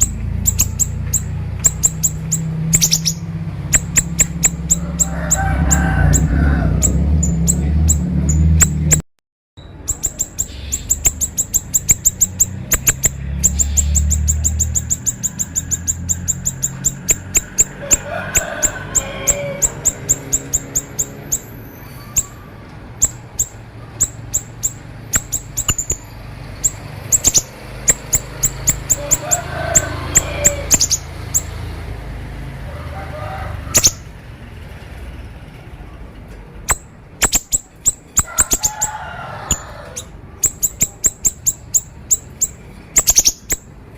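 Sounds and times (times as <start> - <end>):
songbird singing: 0.0 - 9.0, 9.6 - 32.5, 33.6 - 34.1, 36.6 - 43.9.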